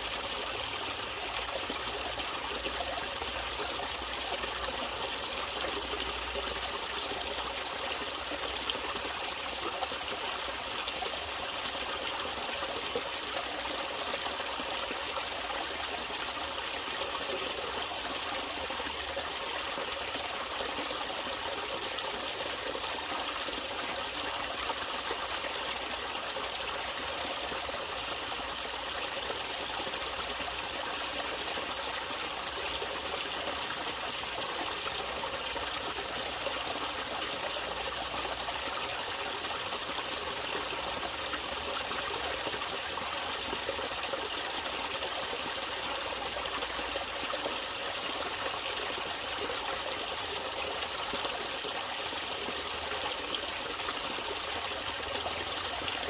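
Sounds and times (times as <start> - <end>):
water trickling and flowing: 0.0 - 56.0.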